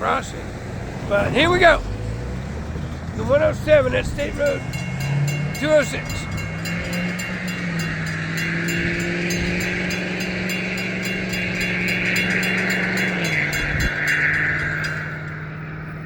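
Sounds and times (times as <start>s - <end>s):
diesel locomotive drone: 0.0s - 16.0s
train wheels clicking over rail joints: 0.0s - 16.0s.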